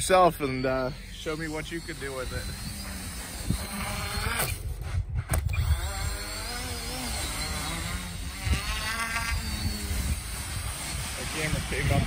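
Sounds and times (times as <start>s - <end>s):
electric motors with propellers buzzing: 0.0s - 12.0s.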